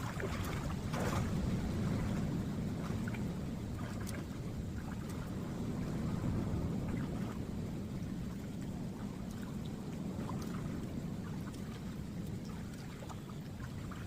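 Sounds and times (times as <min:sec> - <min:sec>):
water splashes ticking: 0:00.0 - 0:14.0
wind buffeting microphone: 0:00.0 - 0:14.0.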